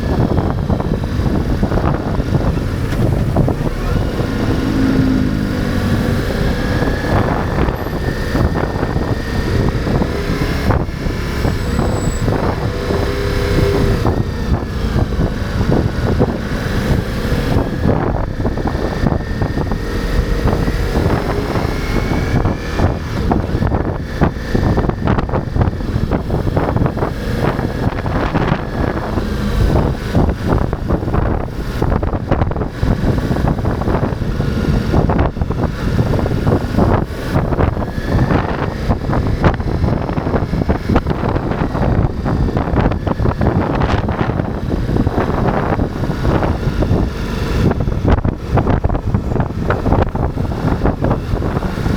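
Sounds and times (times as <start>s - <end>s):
motorcycle engine revving: 0.0s - 51.9s
wind buffeting microphone: 0.0s - 51.9s.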